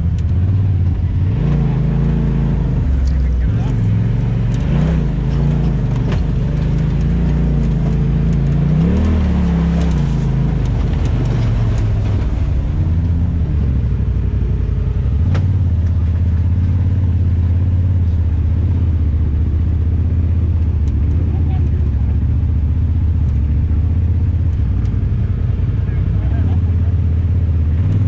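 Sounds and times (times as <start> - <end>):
off-road vehicle engine: 0.0 - 28.0.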